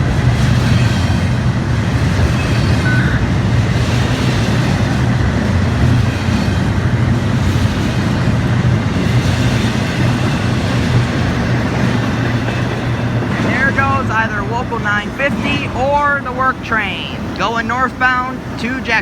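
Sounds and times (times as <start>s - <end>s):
freight train cars rolling: 0.0s - 19.0s.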